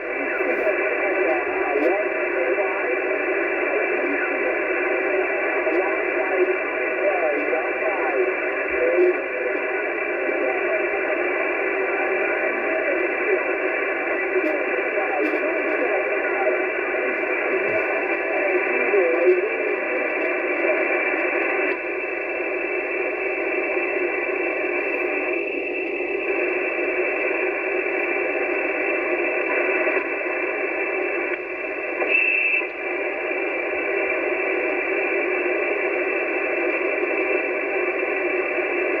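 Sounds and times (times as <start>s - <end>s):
faint radio voices: 0.0s - 39.0s
radio static hiss: 0.0s - 39.0s.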